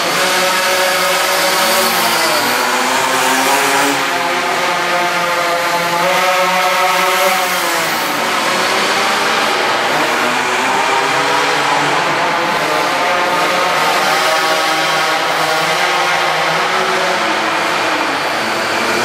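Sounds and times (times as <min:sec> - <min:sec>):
minibike engine revving: 0:00.0 - 0:19.0.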